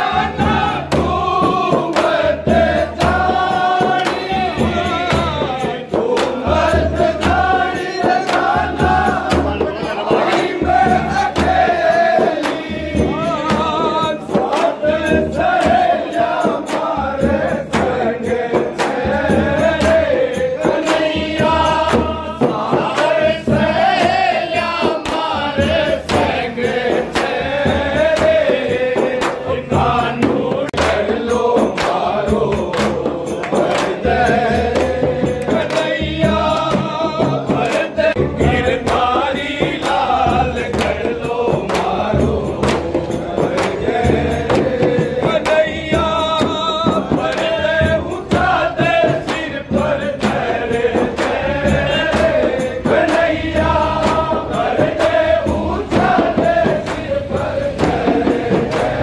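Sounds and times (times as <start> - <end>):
frame drums beating: 0.0 - 59.0
men singing folk song together: 0.0 - 59.0.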